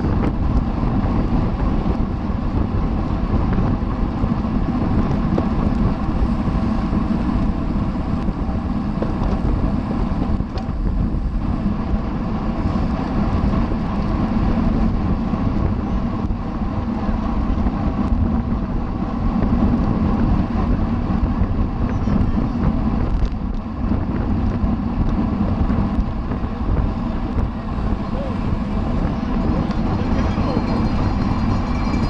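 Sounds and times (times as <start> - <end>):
road and tyre noise: 0.0 - 32.0
wind rushing over microphone: 0.0 - 32.0.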